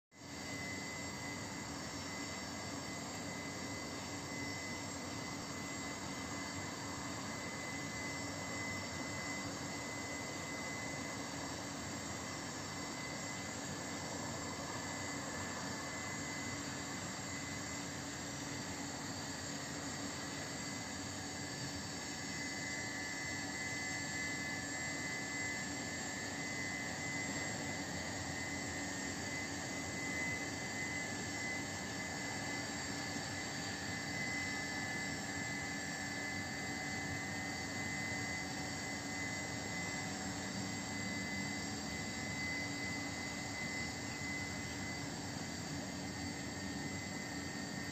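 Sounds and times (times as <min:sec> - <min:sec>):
faint high whine: 0:00.1 - 0:47.9
machinery hum: 0:00.2 - 0:47.9.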